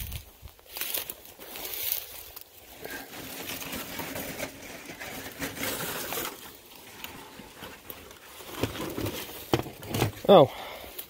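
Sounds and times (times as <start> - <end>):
brush rustling and crackling: 0.0 - 11.0.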